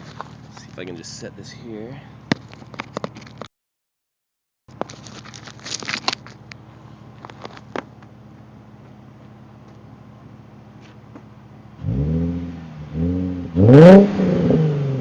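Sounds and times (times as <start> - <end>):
car engine idling: 0.0 - 3.1, 4.7 - 13.8.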